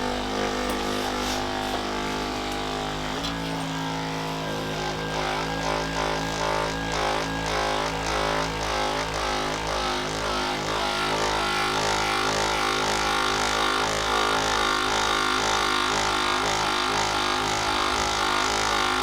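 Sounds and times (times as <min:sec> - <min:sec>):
small electric motor pulsing: 0:00.0 - 0:19.0.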